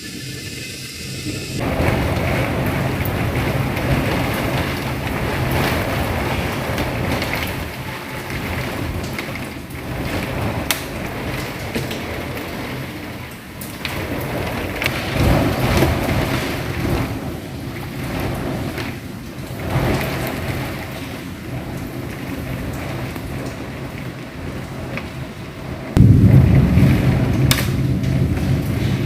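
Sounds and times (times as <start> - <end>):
deep thunder rumble: 0.0 - 29.0
heavy rain pouring: 0.0 - 29.0
strong wind: 0.0 - 29.0.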